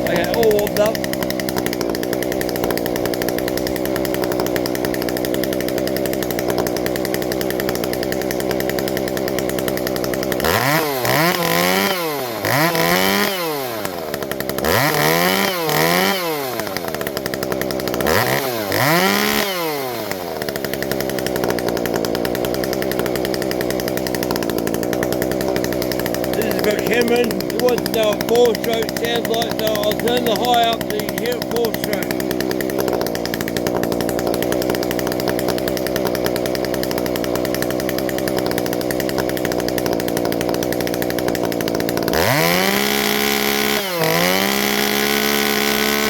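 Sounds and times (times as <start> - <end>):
chainsaw idling and revving: 0.0 - 46.0.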